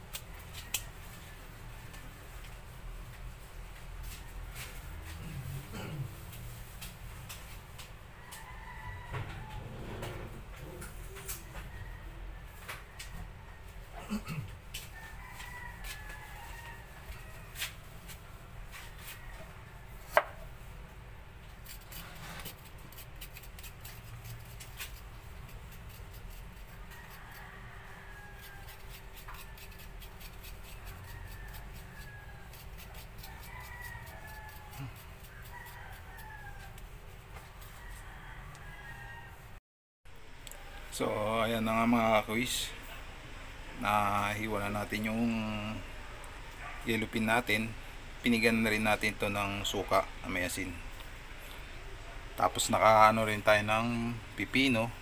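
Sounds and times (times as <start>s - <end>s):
rooster crowing faintly: 7.4s - 20.5s, 21.6s - 39.6s, 40.2s - 55.0s.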